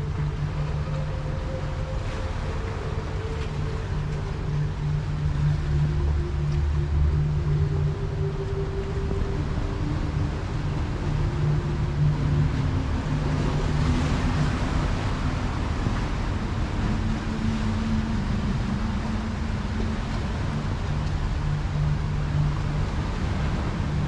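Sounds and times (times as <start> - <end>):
low hum: 0.0 - 24.0
ocean waves on rocky shore: 0.0 - 24.0.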